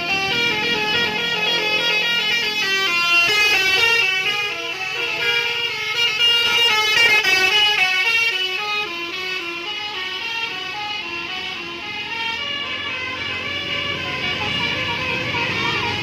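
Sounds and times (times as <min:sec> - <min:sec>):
bus multi-tone horn melody: 0:00.0 - 0:16.0.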